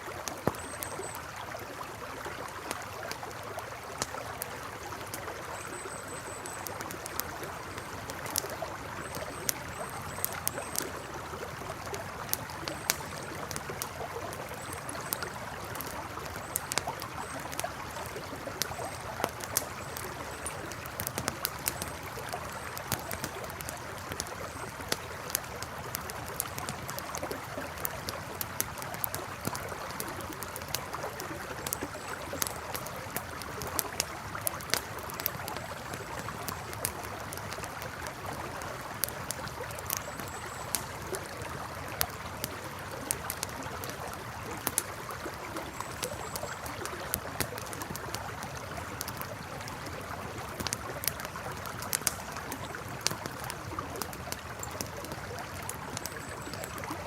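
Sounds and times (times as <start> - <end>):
campfire crackling and popping: 0.0 - 57.0
river flowing: 0.0 - 57.0.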